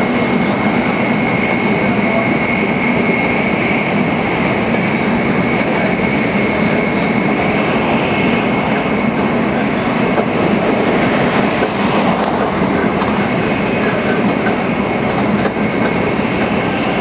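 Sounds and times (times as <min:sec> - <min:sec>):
high-pitched train whine: 0:00.0 - 0:17.0
high-speed train rushing: 0:00.0 - 0:17.0.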